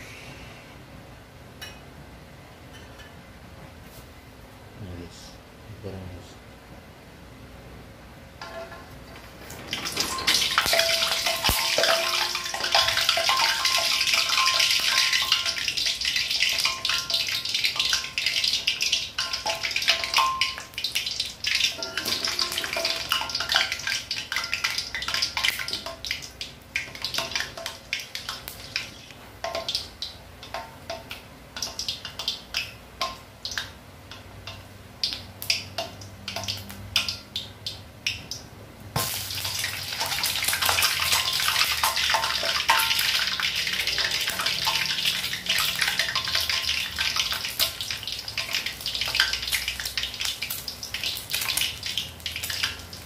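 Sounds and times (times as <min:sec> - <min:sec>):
oil popping and crackling: 0:09.1 - 0:38.4, 0:39.0 - 0:53.0
eggs sizzling in hot oil: 0:09.4 - 0:38.3, 0:38.9 - 0:53.0.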